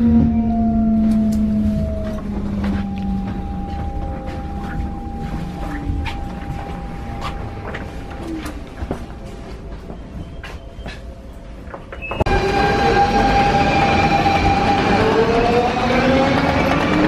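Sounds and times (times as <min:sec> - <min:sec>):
train car electrical hum: 0:00.0 - 0:14.4
train low rumble: 0:00.0 - 0:17.0.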